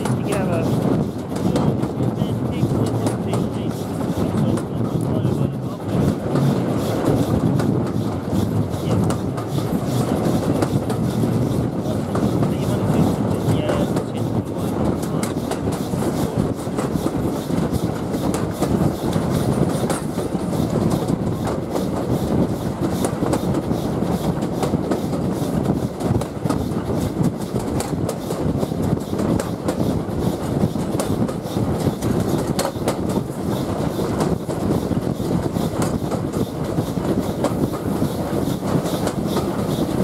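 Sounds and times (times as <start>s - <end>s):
rail joint clicks: 0.0s - 5.2s, 5.9s - 40.0s
train wheels rumbling on rail: 0.0s - 40.0s.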